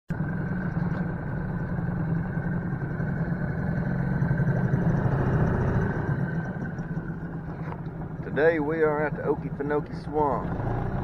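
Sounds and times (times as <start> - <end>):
outboard motor running: 0.1 - 11.0.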